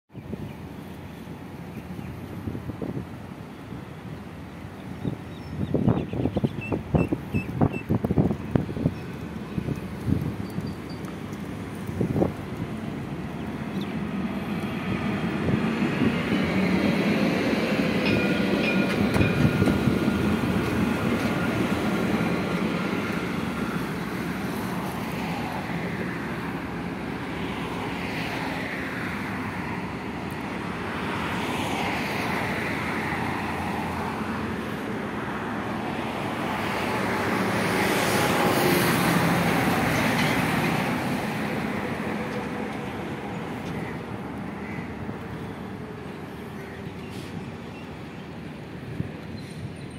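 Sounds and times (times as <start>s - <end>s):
tram rolling rumble: 0.2s - 49.9s.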